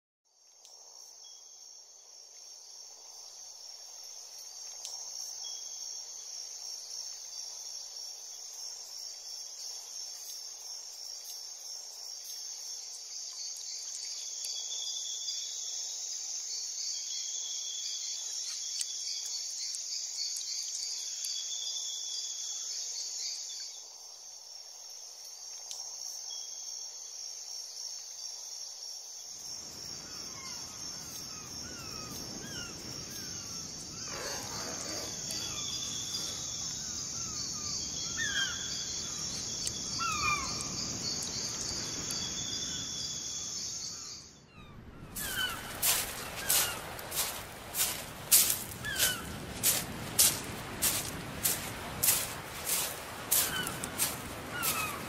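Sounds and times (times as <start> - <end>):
crickets chirping: 0.3 - 55.0.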